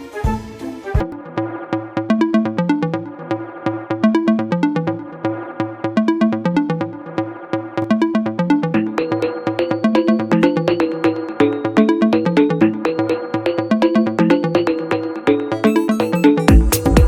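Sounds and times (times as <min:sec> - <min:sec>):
electronic music with steady beat: 0:01.0 - 0:17.0.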